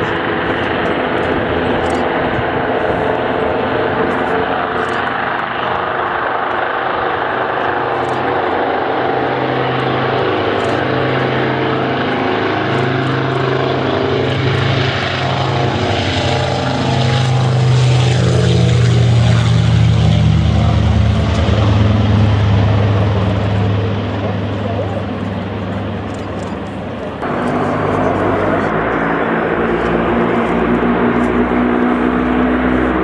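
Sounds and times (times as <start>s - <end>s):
propeller aircraft engines running: 0.0s - 33.0s.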